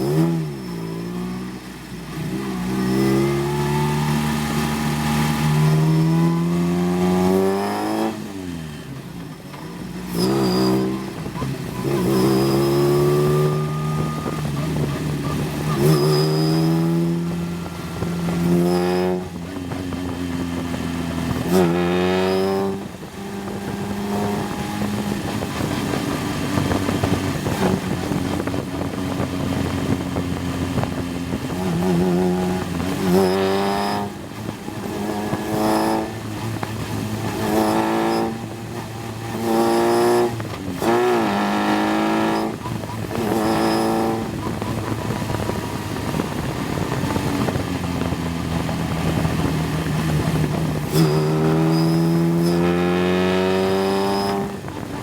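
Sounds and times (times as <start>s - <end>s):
race car engine at speed: 0.0s - 55.0s.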